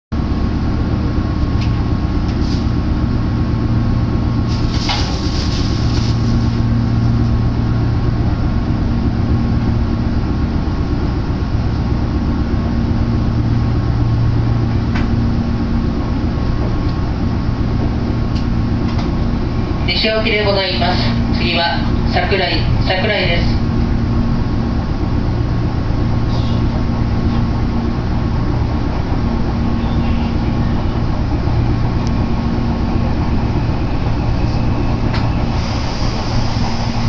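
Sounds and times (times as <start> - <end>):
train low rumble: 0.1 - 37.0.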